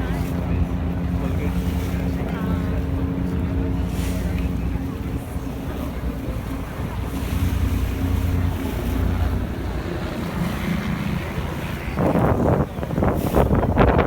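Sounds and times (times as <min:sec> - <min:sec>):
ferry engine rumble: 0:00.0 - 0:14.0
water rushing: 0:00.0 - 0:14.0
wind buffeting microphone: 0:00.0 - 0:14.0.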